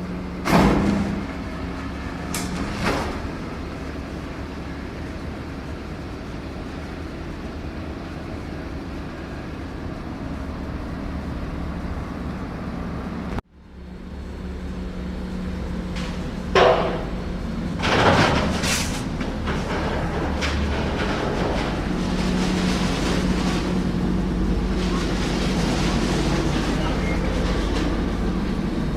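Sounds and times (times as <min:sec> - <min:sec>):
machinery engine rumble: 0:00.0 - 0:28.9.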